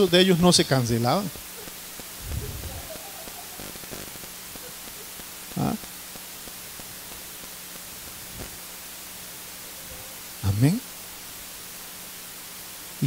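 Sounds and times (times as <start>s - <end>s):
faint low hum: 0.0s - 13.0s
steady hiss: 0.0s - 13.0s.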